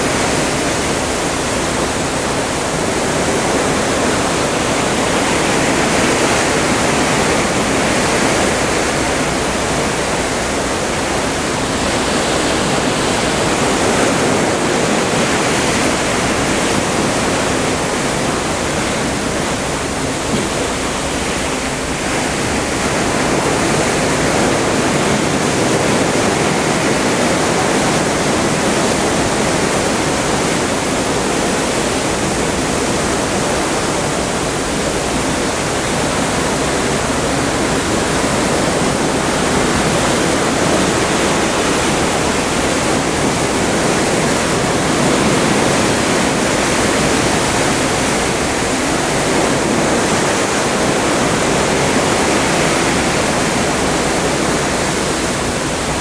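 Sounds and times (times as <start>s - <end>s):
water rushing past a ship: 0.0s - 56.0s.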